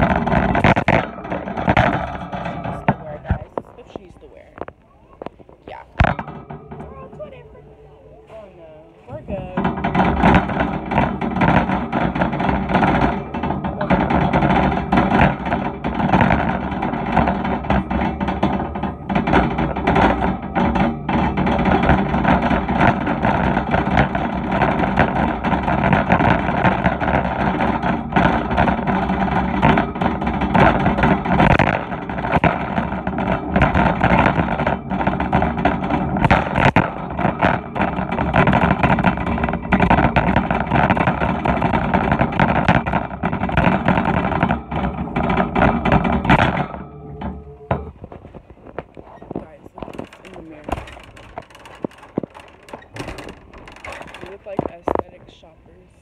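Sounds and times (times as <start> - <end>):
metal shopping cart rattling: 0.0 - 4.6, 5.7 - 55.8.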